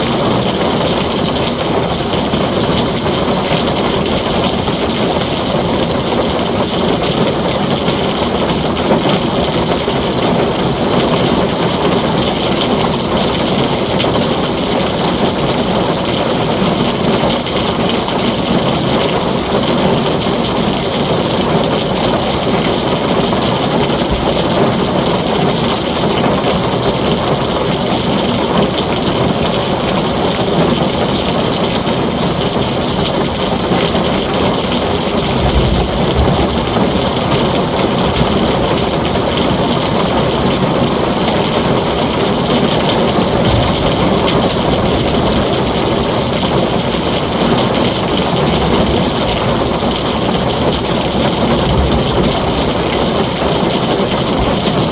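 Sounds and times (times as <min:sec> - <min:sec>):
heavy rain on a tin roof: 0:00.0 - 0:54.9.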